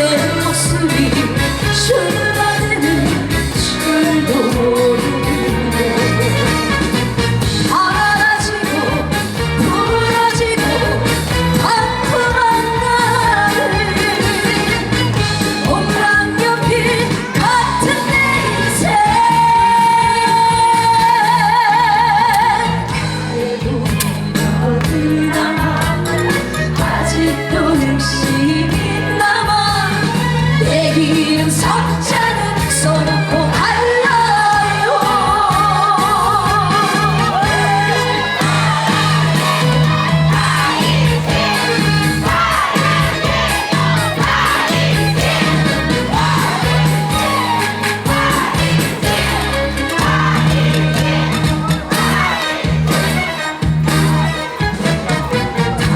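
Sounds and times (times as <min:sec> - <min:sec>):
person singing with vibrato: 0:00.0 - 0:07.1, 0:07.7 - 0:55.7
pop-trot backing track: 0:00.0 - 0:55.9.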